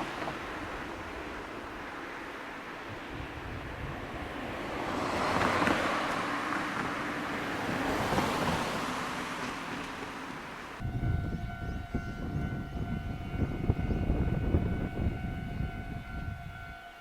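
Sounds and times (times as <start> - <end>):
road traffic passing: 0.0 - 16.2.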